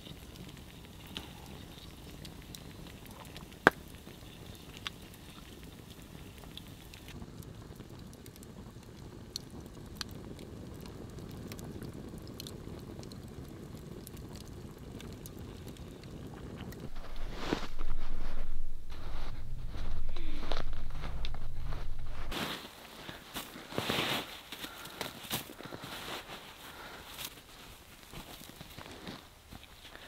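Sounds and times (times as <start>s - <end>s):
fire crackling and popping: 0.0s - 30.0s
rush of campfire flames: 0.0s - 30.0s.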